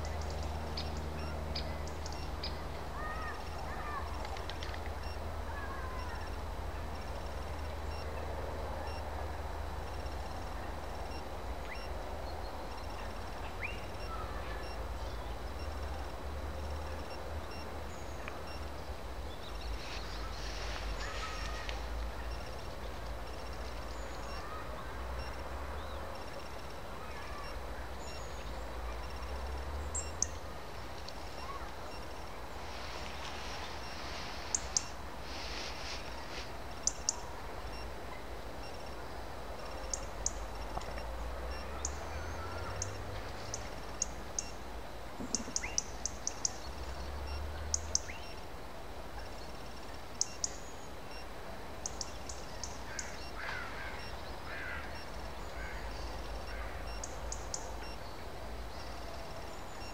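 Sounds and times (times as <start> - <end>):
birds chirping: 0.0 - 9.0, 10.0 - 16.0, 16.8 - 44.6, 45.2 - 48.4, 51.8 - 59.9.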